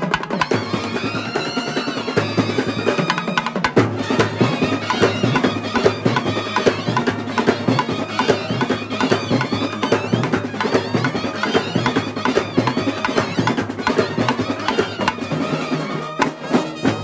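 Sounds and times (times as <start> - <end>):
clarinets and brass melody: 0.0 - 17.0
side drums drumming: 0.0 - 17.0.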